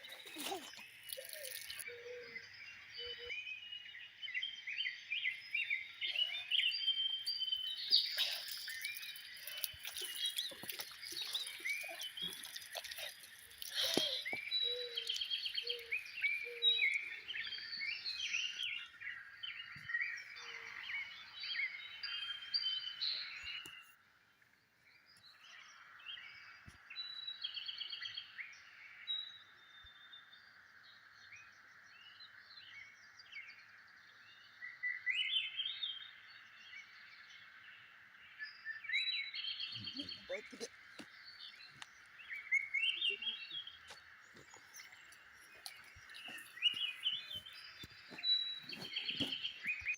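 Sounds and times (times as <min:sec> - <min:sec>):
songbirds chirping and trilling: 0:00.0 - 0:49.9.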